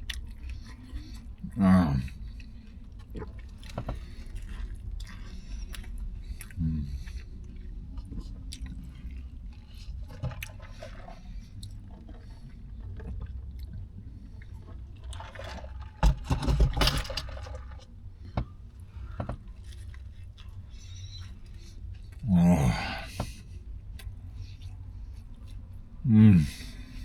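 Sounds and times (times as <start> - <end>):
wet chewing sounds: 0.0 - 26.0.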